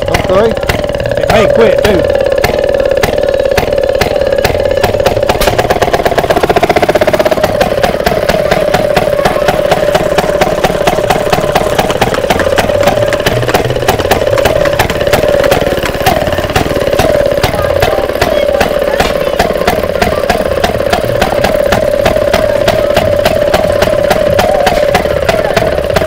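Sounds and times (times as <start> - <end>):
two-stroke engine running: 0.0 - 26.0.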